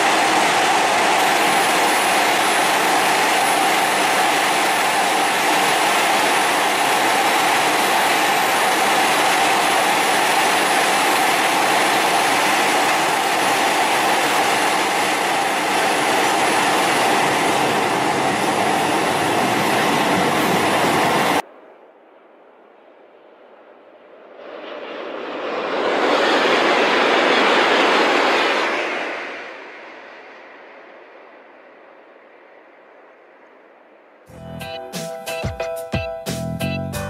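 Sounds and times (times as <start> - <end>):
high-speed train rushing: 0.0 - 35.3.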